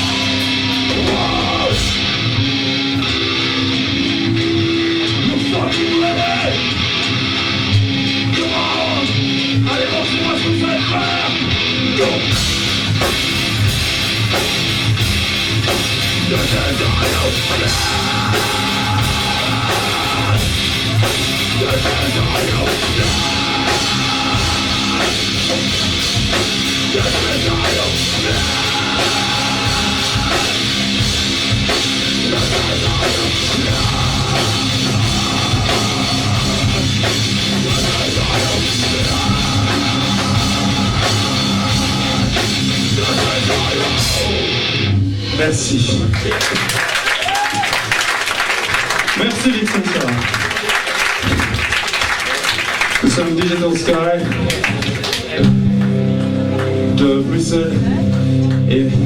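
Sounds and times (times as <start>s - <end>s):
electric guitar strumming: 0.0s - 46.1s, 54.4s - 59.0s
bass guitar: 0.0s - 47.8s, 52.9s - 59.0s
drum kit: 0.0s - 48.7s, 50.6s - 59.0s.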